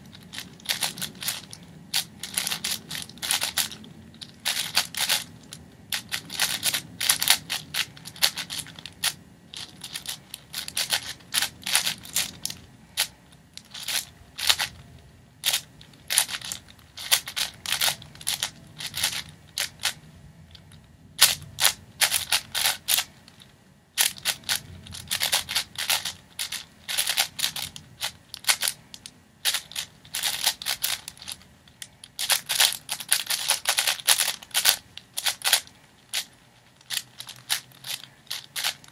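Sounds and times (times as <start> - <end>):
speed cube layers clicking: 0.0 - 14.8, 15.4 - 20.0, 21.2 - 23.4, 24.0 - 38.9.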